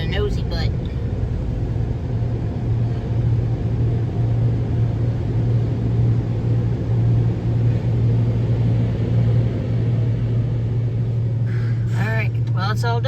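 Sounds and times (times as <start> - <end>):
car cabin droning hum: 0.0 - 13.0.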